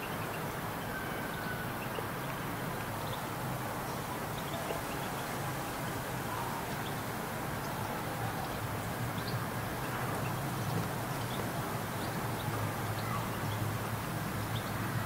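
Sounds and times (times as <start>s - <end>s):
distant urban traffic hum: 0.0s - 15.0s.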